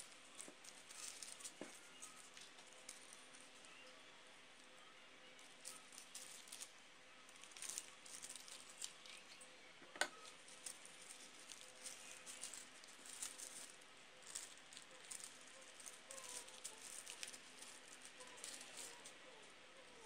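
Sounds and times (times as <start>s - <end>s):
tissue paper rustling and crinkling: 0.0s - 3.9s, 5.4s - 9.4s, 10.2s - 20.0s.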